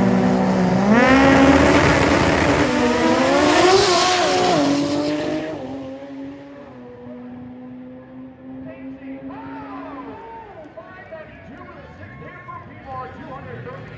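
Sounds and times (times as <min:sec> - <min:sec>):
drag race cars accelerating: 0:00.0 - 0:12.0.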